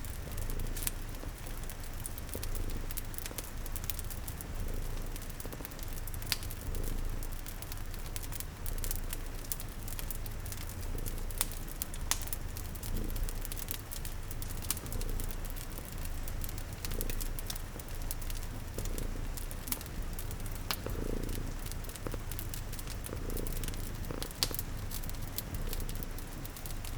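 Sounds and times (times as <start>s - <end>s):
cat purring: 0.0s - 26.9s
rain pattering: 0.0s - 26.9s
wood fire crackling: 0.0s - 26.9s.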